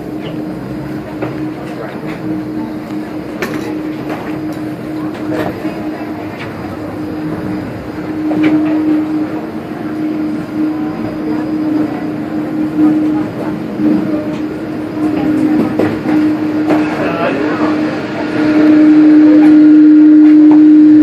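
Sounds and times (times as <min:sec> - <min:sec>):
aircraft cabin air and engine noise: 0:00.0 - 0:21.0
constant hum: 0:00.0 - 0:21.0.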